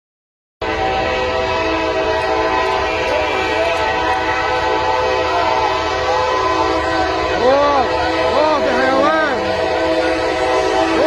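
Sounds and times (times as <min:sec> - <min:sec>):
train horn chord: 0:00.6 - 0:11.0
rising and falling horn calls: 0:01.6 - 0:11.0.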